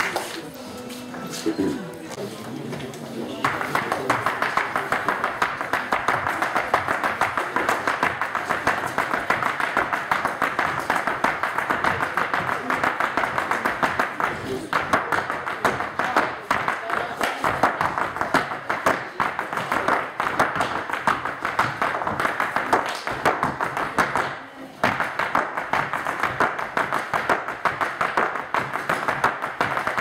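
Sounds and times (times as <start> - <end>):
audience clapping: 0.0 - 0.6, 3.4 - 30.0.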